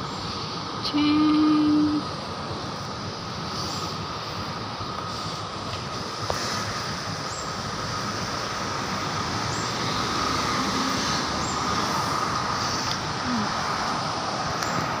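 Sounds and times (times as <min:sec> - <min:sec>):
faint steady whine: 0:00.0 - 0:15.0
road traffic noise: 0:00.0 - 0:15.0.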